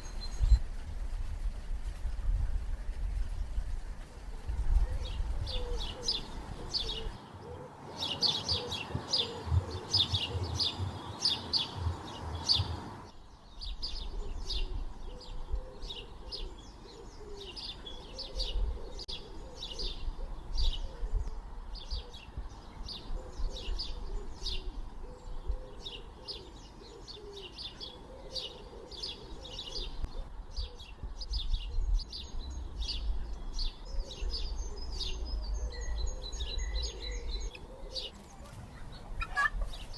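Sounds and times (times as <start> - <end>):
birds chirping: 3.7 - 39.9
lower bird calls: 4.8 - 39.9.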